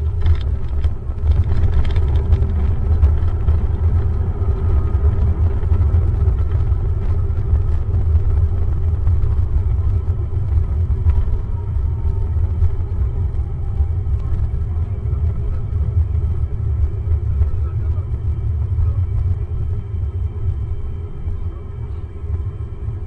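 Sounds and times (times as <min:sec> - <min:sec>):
low rumble of aircraft cabin: 0:00.0 - 0:23.0.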